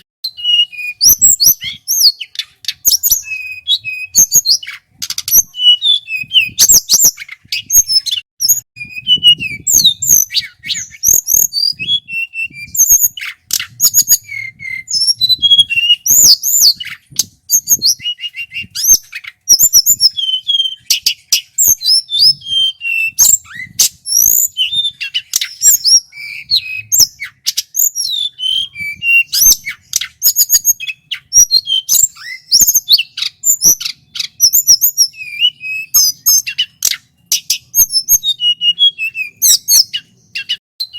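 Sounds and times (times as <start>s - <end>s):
flycatcher singing: 0.3s - 40.9s.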